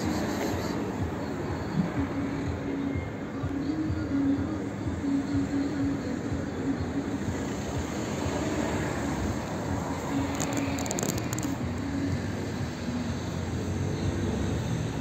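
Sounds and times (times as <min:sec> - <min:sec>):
passing vehicle noise: 0:00.0 - 0:15.0.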